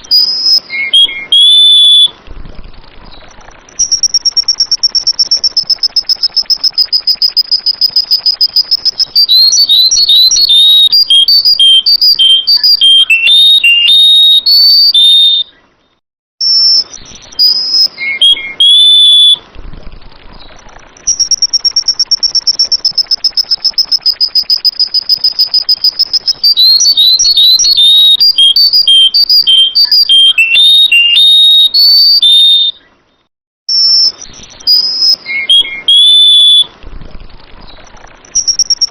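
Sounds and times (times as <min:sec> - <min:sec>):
bird trilling and whistling: 0:00.0 - 0:02.2, 0:03.1 - 0:15.6, 0:16.4 - 0:19.4, 0:20.4 - 0:32.9, 0:33.7 - 0:36.7, 0:37.6 - 0:38.9.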